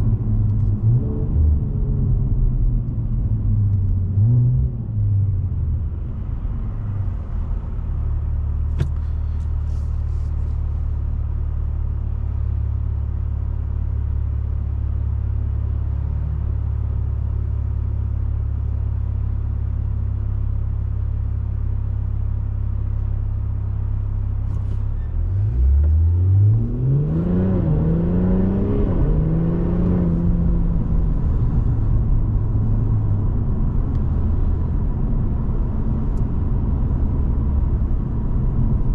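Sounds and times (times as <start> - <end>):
car engine droning and revving: 0.0 - 38.9.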